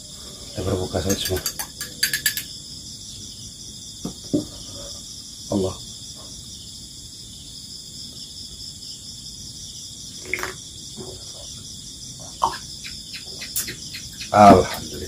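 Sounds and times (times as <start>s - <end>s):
crickets and insects chirring: 0.0s - 15.0s.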